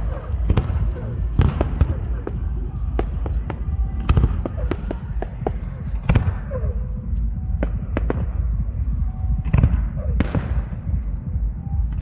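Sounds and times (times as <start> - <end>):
fireworks bangs and crackles: 0.0 - 12.0
low rumble: 0.0 - 12.0.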